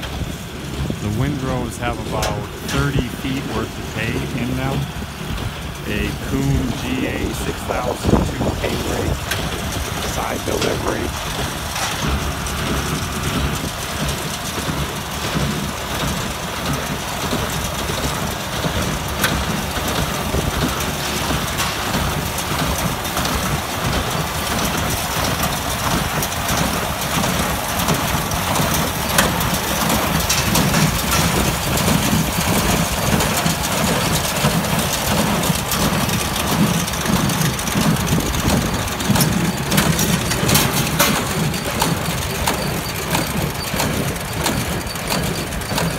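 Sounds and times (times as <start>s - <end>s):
baler running: 0.0s - 45.9s
tractor diesel engine under load: 0.0s - 45.9s.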